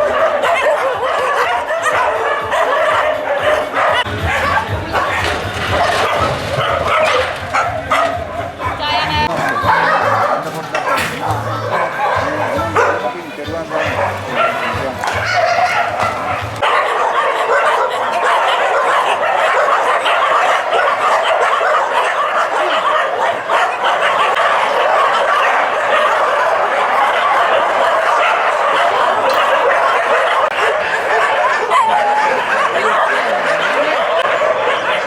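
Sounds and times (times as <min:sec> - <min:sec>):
group of dogs barking: 0:00.0 - 0:35.0.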